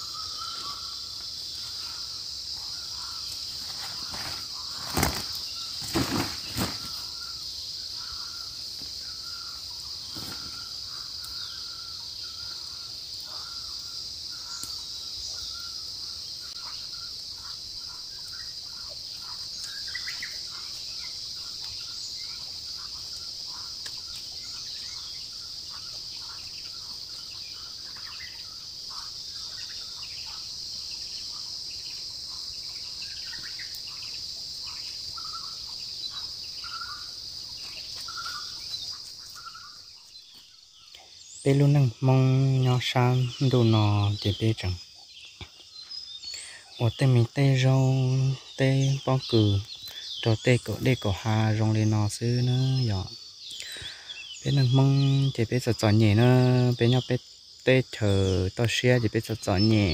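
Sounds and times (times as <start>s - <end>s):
bird calls: 0.0s - 59.9s
insects droning: 0.0s - 59.9s.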